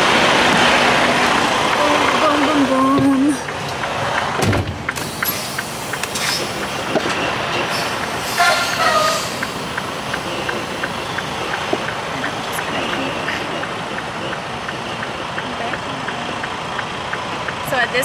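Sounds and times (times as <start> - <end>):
diesel truck engine running: 0.0 - 18.0
steady fast ticking: 1.0 - 18.0.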